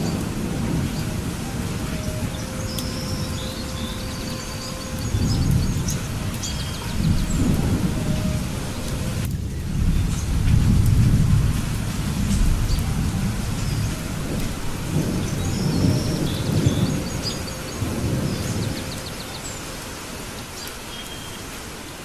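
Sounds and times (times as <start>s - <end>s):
thunder rumbling: 0.0s - 20.9s
rain falling: 0.0s - 22.0s.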